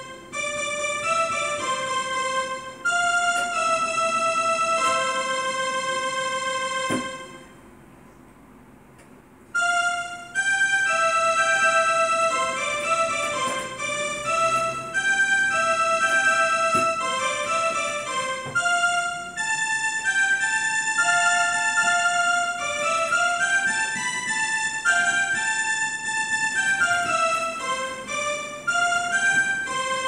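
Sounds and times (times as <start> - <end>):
electronic keyboard melody: 0.0 - 8.1, 9.4 - 30.0.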